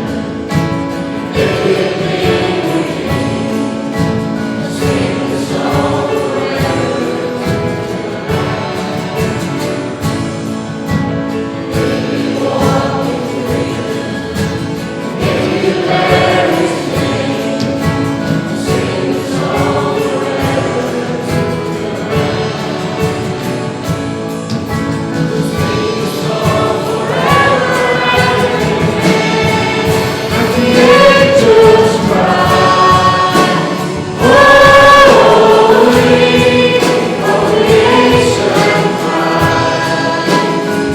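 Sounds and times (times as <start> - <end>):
congregation singing a hymn: 0.0 - 40.9
musical accompaniment: 0.0 - 40.9.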